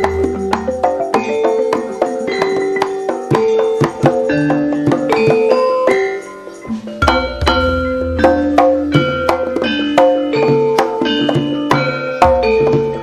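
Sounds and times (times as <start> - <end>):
electronic keyboard melody: 0.0 - 13.0
hand drum strokes: 0.0 - 13.0.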